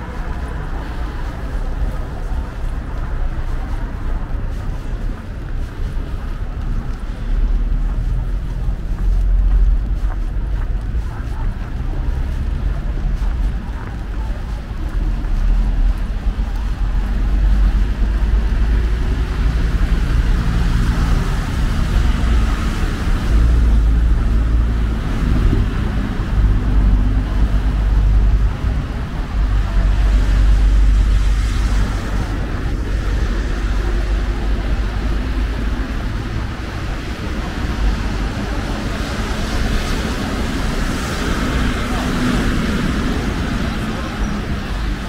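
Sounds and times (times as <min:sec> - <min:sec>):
cars passing on snowy street: 0:00.0 - 0:45.0
low rumble of engines and tyres: 0:00.0 - 0:45.0.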